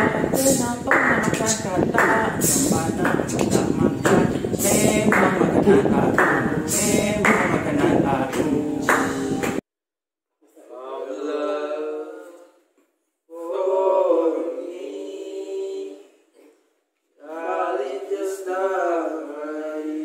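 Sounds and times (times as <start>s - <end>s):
men singing a cappella: 0.0s - 9.6s, 10.6s - 12.6s, 13.3s - 16.2s, 17.2s - 20.0s.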